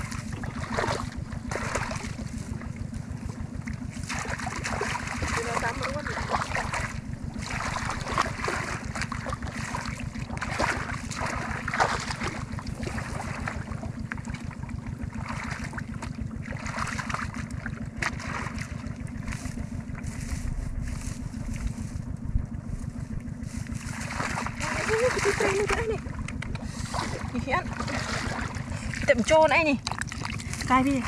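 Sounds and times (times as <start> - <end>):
water splashing: 0.0 - 3.2, 3.8 - 19.5, 23.7 - 31.0
small engine running: 0.0 - 31.0.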